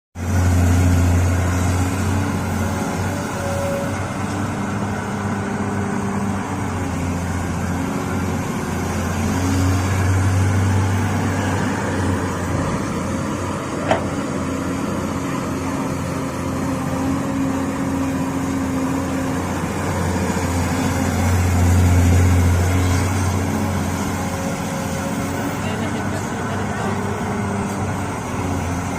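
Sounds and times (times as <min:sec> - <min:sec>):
heavy diesel engine running: 0:00.2 - 0:28.9.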